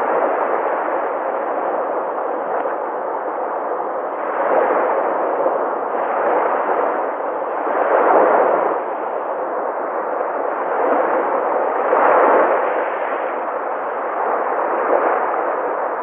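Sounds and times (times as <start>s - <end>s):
sea waves surf: 0.0s - 16.0s.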